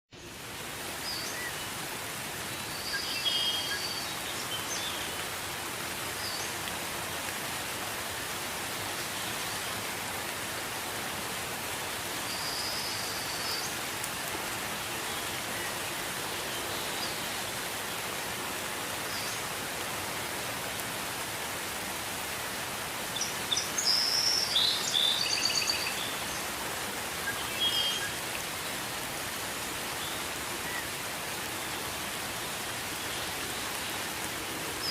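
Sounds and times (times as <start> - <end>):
gentle rain falling: 0.1 - 34.9.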